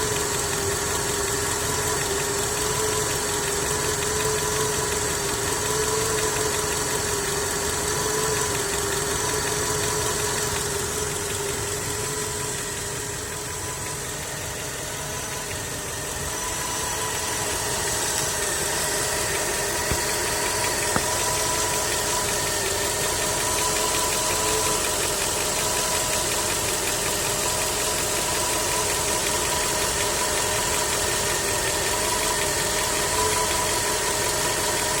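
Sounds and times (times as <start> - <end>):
engine knocking: 0.0 - 35.0
petrol engine running: 0.0 - 35.0.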